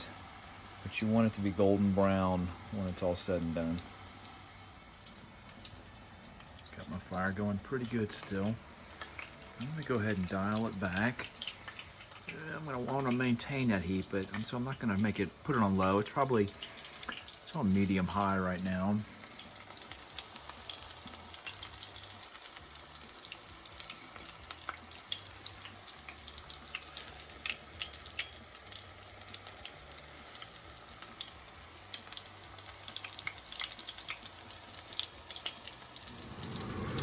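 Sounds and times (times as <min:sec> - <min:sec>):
food deep-frying with pops: 0:00.0 - 0:37.0.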